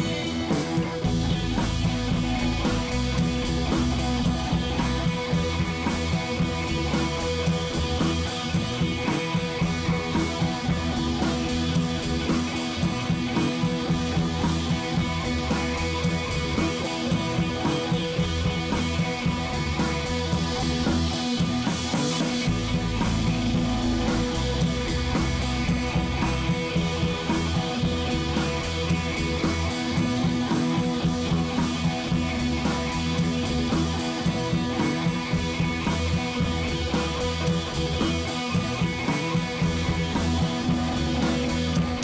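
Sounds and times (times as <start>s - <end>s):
rock music with guitar and drums: 0.0s - 42.0s.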